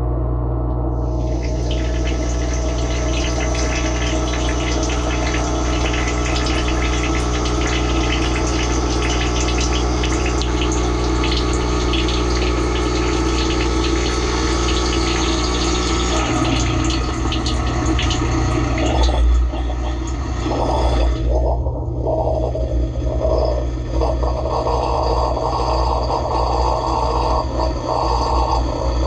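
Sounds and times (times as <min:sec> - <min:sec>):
dishwasher pump hum: 0:00.0 - 0:29.0.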